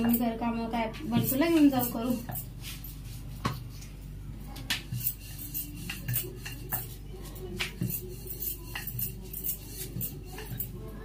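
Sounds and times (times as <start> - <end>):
dishes and utensils clinking: 0.0 - 3.6, 4.5 - 11.0.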